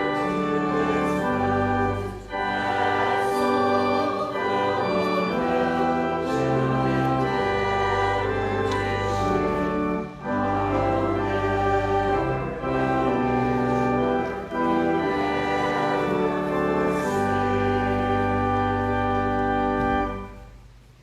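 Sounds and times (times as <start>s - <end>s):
organ playing held chords: 0.0s - 21.0s.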